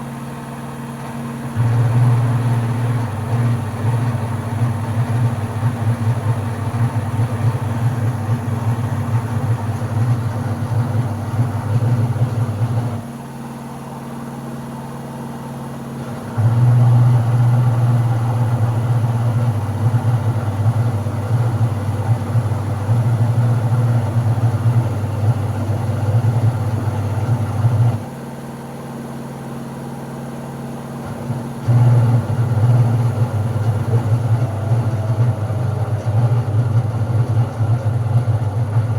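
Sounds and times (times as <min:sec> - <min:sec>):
washing machine motor droning: 0:00.0 - 0:38.9.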